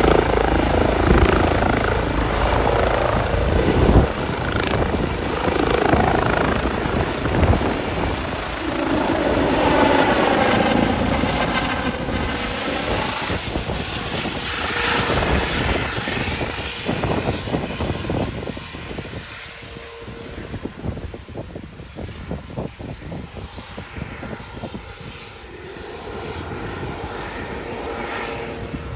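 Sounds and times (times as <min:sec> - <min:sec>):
helicopter rotor and turbine: 0:00.0 - 0:28.9.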